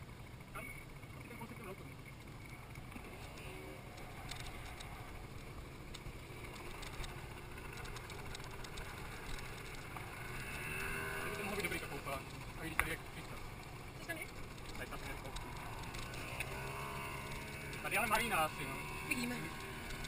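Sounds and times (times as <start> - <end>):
motor scooter engine: 0.0 - 20.0
small rattling ticks: 0.0 - 20.0.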